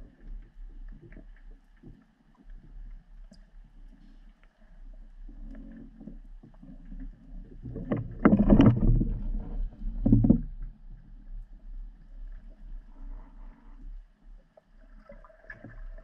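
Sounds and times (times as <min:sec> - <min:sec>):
muffled underwater water noise: 0:00.0 - 0:16.0.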